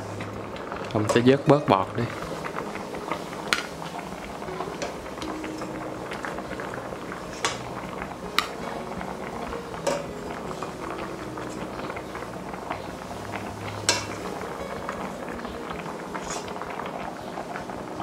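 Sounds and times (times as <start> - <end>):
beans boiling and bubbling: 0.0 - 18.0.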